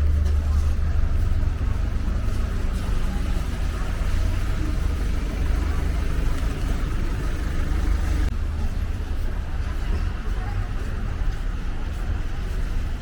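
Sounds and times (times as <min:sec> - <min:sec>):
traffic rumbling past: 0:00.0 - 0:13.0.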